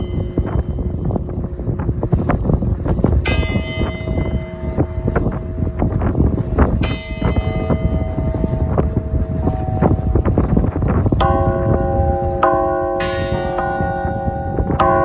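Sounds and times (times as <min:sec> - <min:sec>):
large bell ringing: 0:00.0 - 0:15.0.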